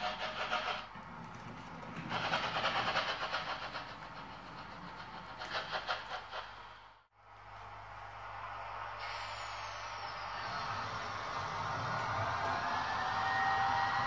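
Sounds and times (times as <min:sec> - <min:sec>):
model steam locomotive running: 0:00.0 - 0:07.1, 0:08.2 - 0:14.0.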